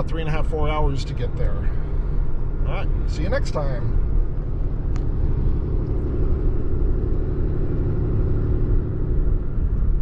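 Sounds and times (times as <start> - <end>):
truck engine and tyre rumble: 0.0 - 10.0.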